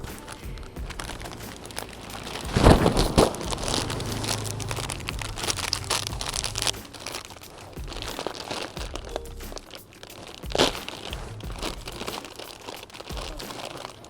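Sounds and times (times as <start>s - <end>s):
crinkling handling noise: 0.0s - 14.0s.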